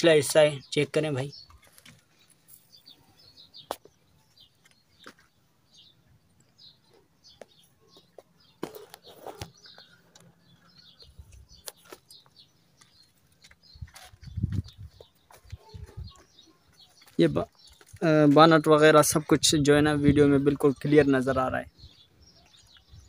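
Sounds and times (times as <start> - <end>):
birds chirping faintly: 0.0 - 23.0.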